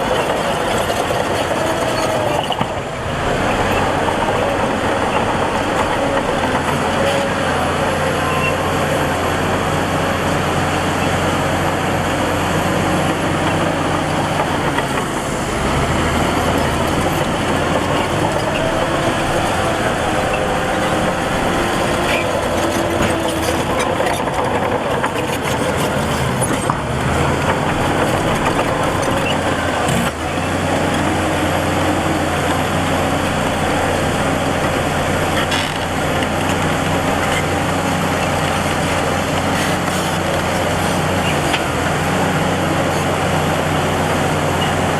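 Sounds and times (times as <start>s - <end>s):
diesel earthmoving machinery running: 0.0s - 44.9s.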